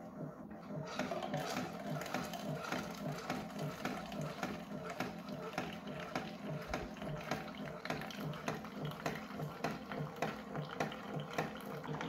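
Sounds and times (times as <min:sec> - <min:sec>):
coffee machine humming: 0:00.0 - 0:12.0
coffee pouring into paper cup: 0:00.9 - 0:12.0.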